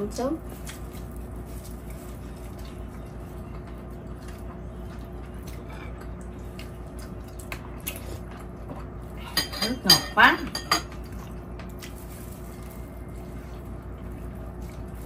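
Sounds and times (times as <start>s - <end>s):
low background hum: 0.0s - 15.0s
people chewing food: 0.4s - 9.5s, 10.8s - 15.0s.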